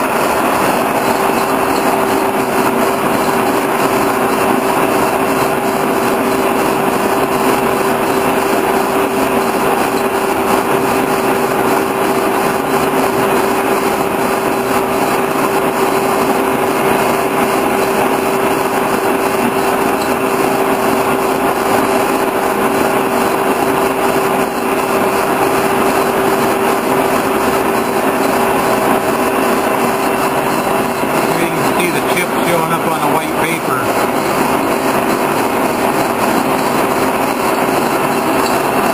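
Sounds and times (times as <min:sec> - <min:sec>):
boring mill turning a shaft: 0:00.0 - 0:38.9.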